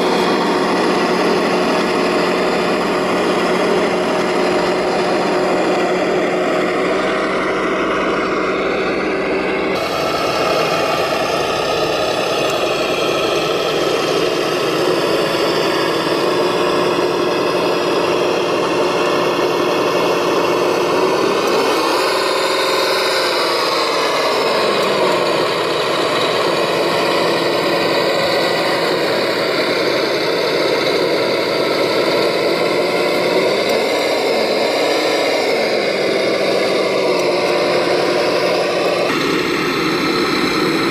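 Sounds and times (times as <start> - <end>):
model tractor engine hum: 0.0 - 40.9.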